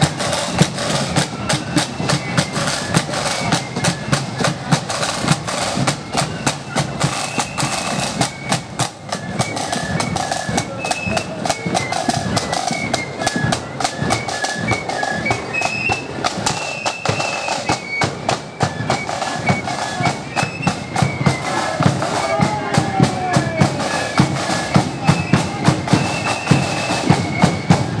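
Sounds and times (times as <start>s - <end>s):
flutes playing melody: 0.0s - 28.0s
side drum and bass drum beats: 0.0s - 28.0s.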